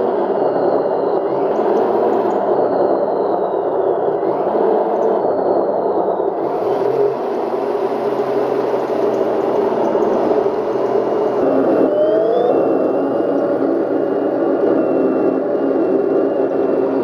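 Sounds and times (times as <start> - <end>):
simulated tank engine from small speaker: 0.0 - 17.0.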